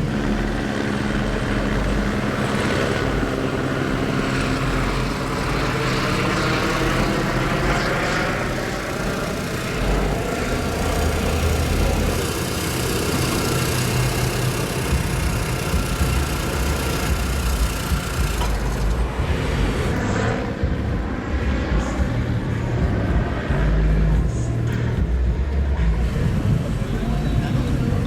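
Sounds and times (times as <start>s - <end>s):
street traffic engine rumble: 0.0s - 28.0s.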